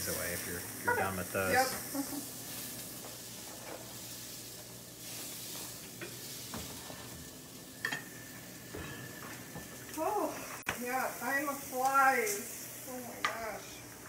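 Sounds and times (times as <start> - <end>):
patties sizzling in frying pan: 0.0 - 14.0.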